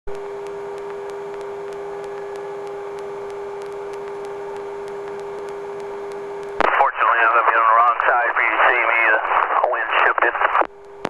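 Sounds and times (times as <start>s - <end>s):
turbine helicopter hum: 0.1s - 11.0s.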